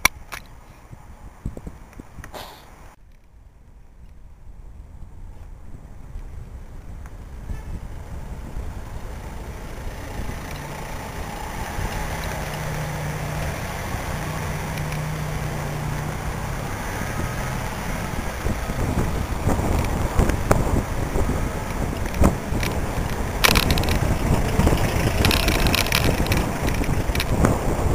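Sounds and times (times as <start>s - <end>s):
low traffic rumble: 0.0s - 27.9s.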